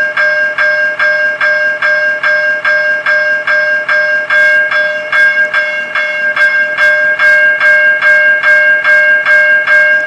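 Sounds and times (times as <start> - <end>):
railroad crossing bell ringing: 0.0 - 10.0.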